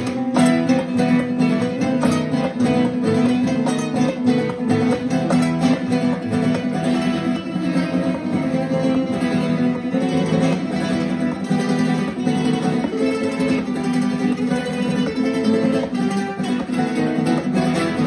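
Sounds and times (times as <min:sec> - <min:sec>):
classical guitars playing: 0:00.0 - 0:18.0.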